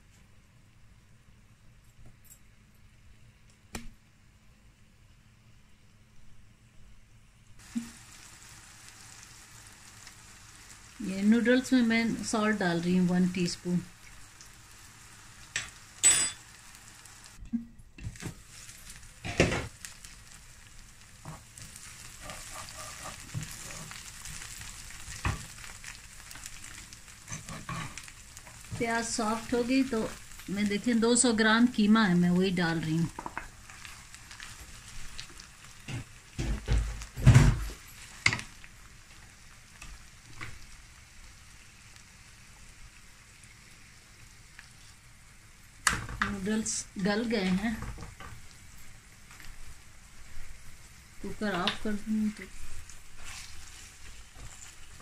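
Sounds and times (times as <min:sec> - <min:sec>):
onions sizzling in oil: 0:07.6 - 0:17.4, 0:18.0 - 0:55.0.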